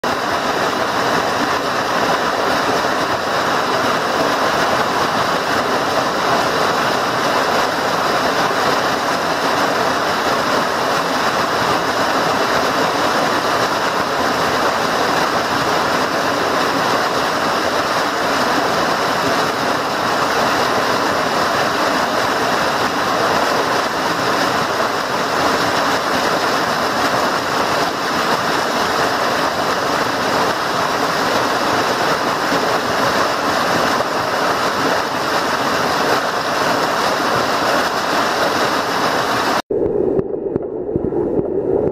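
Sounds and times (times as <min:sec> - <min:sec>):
waterfall rushing over rocks: 0:00.0 - 0:39.7.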